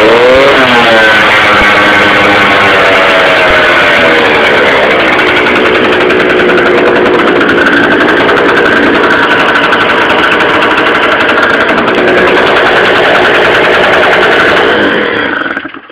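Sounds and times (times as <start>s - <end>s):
scooter engine running: 0.0s - 15.9s.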